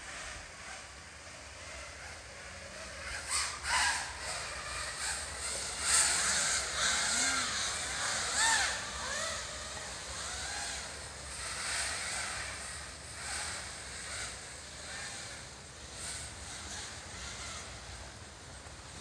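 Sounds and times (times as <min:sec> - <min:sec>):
steady rushing hiss: 0:00.0 - 0:19.0
drone motors whining: 0:00.1 - 0:19.0.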